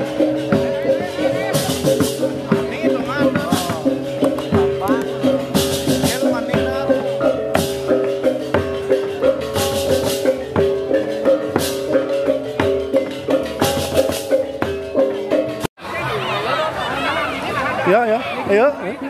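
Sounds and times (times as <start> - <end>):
fast drum beat: 0.0 - 15.7
gamelan gong tones: 0.0 - 15.7.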